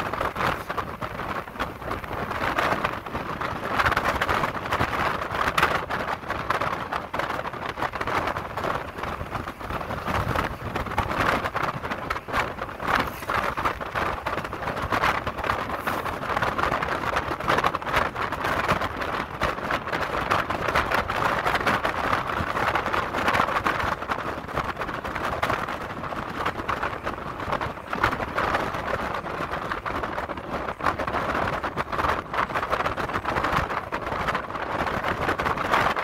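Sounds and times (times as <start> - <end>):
wind and road noise in car: 0.0 - 36.0.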